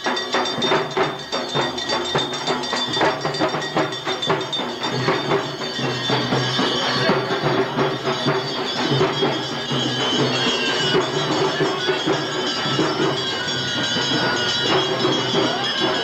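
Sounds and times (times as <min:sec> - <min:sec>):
fast driving drum beat: 0:00.0 - 0:16.0
high ringing tones: 0:00.0 - 0:16.0.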